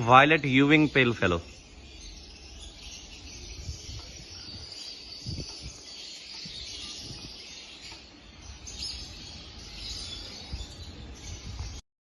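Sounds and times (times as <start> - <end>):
lovebirds chattering: 0.0 - 11.8.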